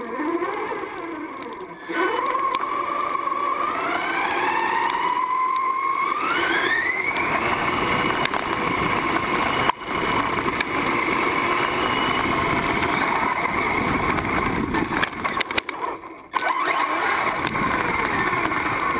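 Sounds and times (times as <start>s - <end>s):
rc car motor whining: 0.0s - 18.9s
tyre and drivetrain noise: 0.0s - 18.9s.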